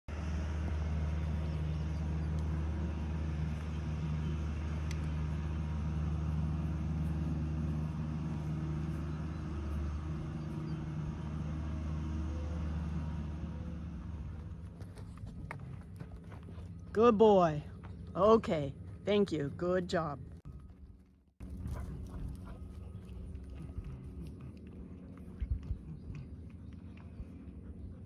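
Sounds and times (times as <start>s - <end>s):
loader engine droning: 0.0s - 28.0s.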